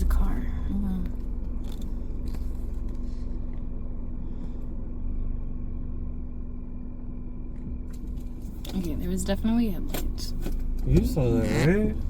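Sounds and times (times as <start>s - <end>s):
car engine running inside car: 0.0s - 12.0s.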